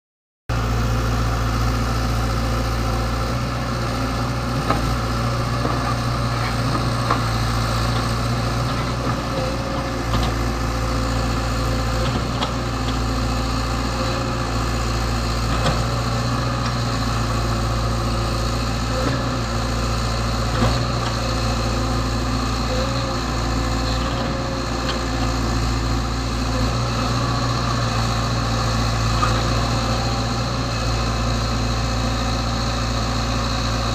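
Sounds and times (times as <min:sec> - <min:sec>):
excavator diesel engine running: 0:00.5 - 0:33.9.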